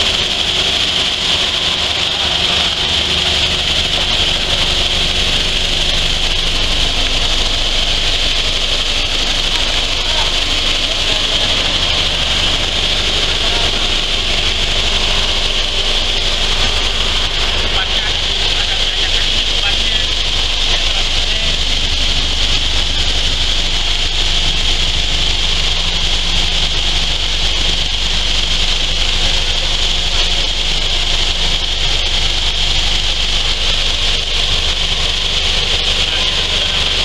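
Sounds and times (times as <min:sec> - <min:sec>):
sieve machine humming: 0:00.0 - 0:37.0.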